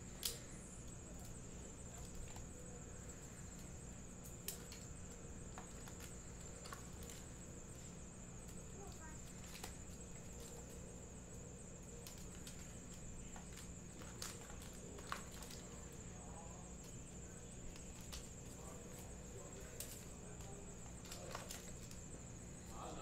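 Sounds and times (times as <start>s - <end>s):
low electrical hum: 0.0s - 23.0s
foil packs crinkling: 4.3s - 23.0s.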